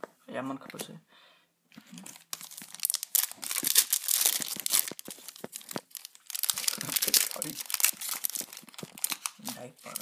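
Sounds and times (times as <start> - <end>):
foil wrapper crinkling: 1.9 - 10.0.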